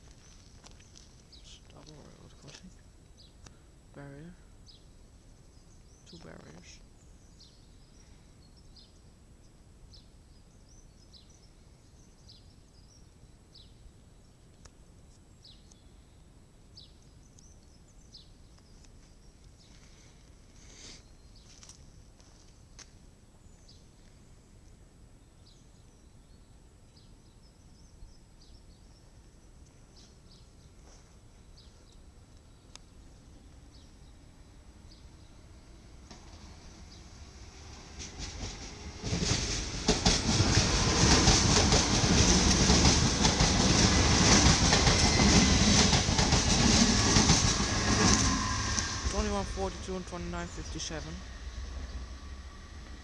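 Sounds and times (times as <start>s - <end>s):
outdoor background hum: 0.0s - 53.0s.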